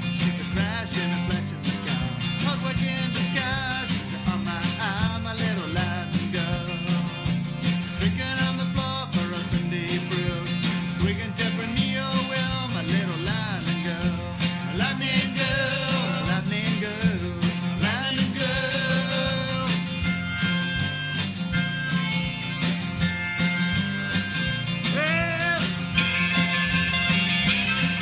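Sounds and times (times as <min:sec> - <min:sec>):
bending guitar lead line: 0:00.0 - 0:28.0
country rock band playing: 0:00.0 - 0:28.0.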